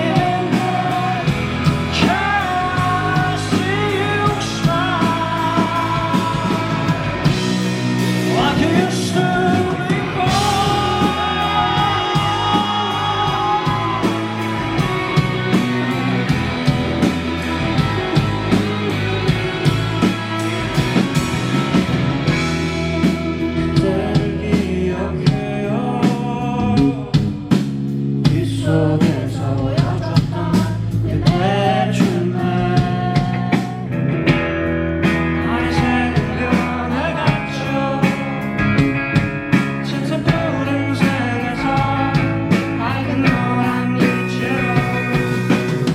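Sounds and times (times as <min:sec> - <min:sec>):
person singing: 0:00.0 - 0:21.0, 0:22.3 - 0:27.4, 0:28.3 - 0:34.0, 0:35.4 - 0:38.8, 0:39.5 - 0:45.9
live rock band playing: 0:00.0 - 0:45.9.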